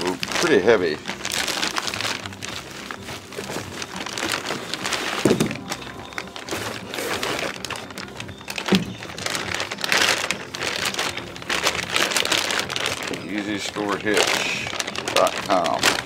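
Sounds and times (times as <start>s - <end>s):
plastic bag and bubble wrap crinkling: 0.0s - 16.0s.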